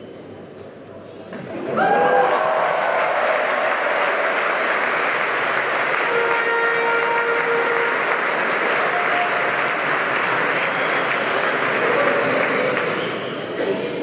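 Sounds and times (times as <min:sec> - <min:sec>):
spectators applauding: 0:01.8 - 0:13.2.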